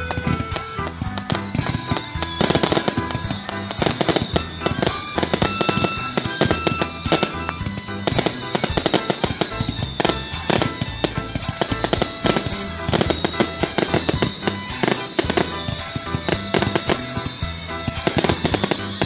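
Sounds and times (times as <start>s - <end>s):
fireworks bangs and crackles: 0.0s - 19.0s
loud music: 0.0s - 19.0s.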